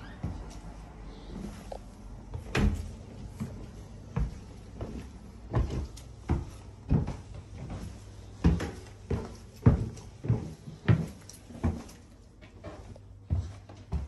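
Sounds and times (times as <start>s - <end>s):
footsteps on carpeted stairs: 0.0s - 14.0s.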